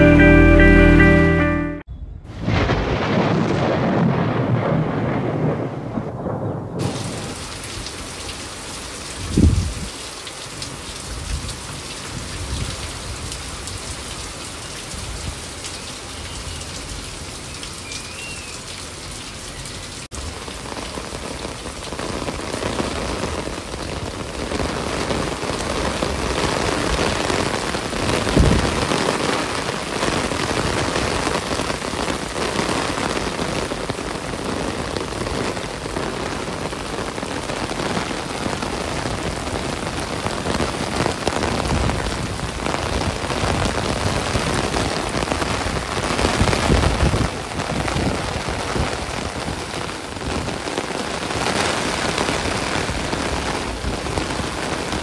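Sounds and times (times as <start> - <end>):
rain falling on plants: 2.9 - 55.0.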